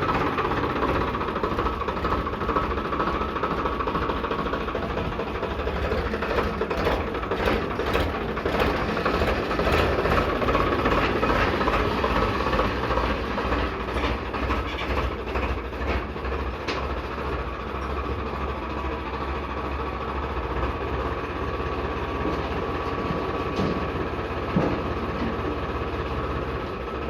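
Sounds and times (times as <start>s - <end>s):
heavy machine engine droning: 0.0s - 27.0s.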